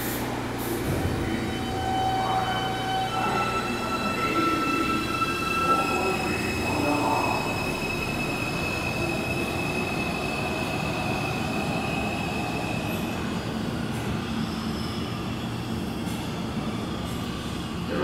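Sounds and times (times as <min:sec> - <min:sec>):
train wheels rumbling on rails: 0:03.4 - 0:18.0.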